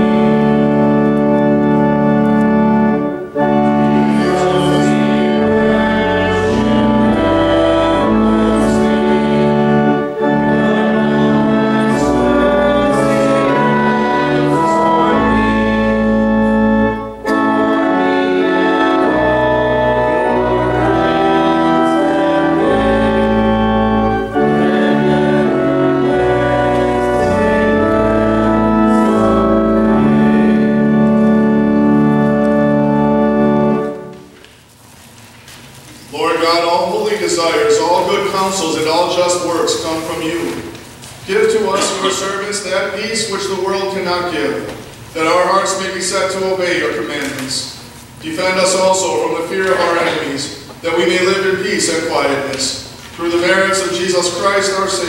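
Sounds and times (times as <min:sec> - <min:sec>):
church organ playing a hymn: 0:00.0 - 0:55.0.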